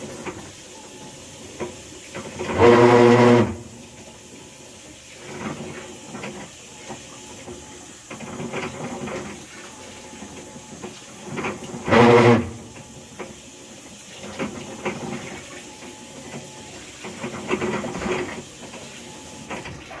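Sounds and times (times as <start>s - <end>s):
grinding inside washer tub: 0.0s - 20.0s
washing machine running: 0.0s - 20.0s.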